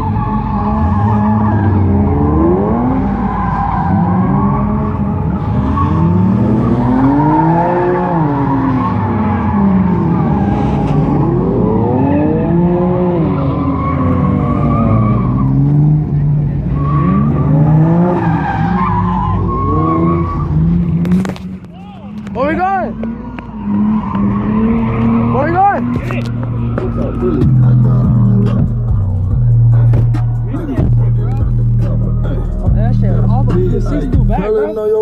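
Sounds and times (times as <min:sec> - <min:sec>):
car engine revving: 0:00.0 - 0:35.0
tires squealing and skidding: 0:00.0 - 0:35.0.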